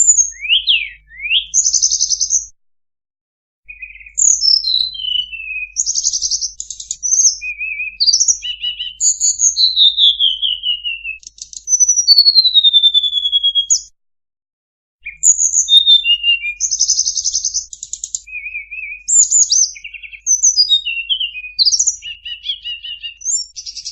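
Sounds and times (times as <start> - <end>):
bird song whistles and trills: 0.0 - 2.6, 3.7 - 14.0, 15.0 - 23.9.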